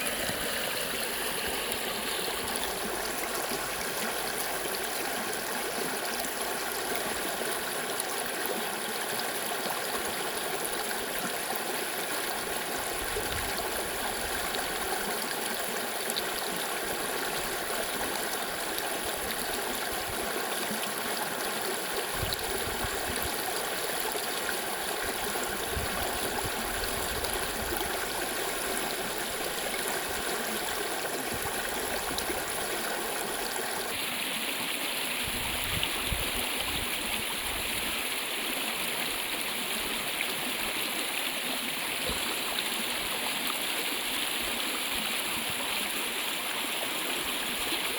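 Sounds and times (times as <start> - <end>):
stream running over rocks: 0.0 - 47.9.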